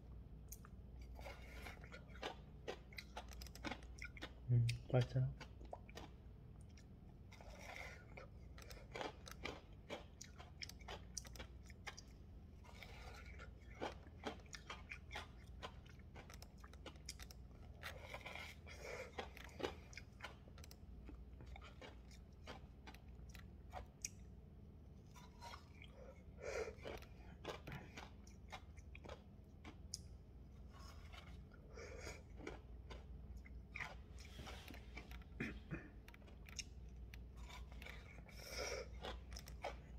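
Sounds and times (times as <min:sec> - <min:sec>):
chewing crunching ice: 0:00.5 - 0:24.3, 0:25.0 - 0:39.9.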